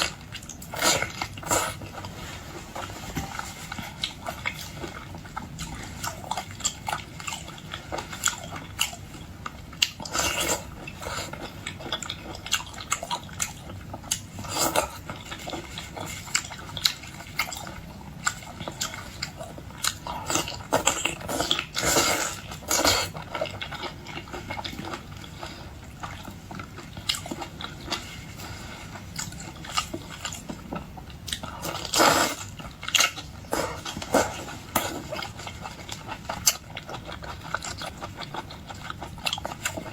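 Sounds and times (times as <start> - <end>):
person chewing and crunching shellfish: 0.0 - 39.9.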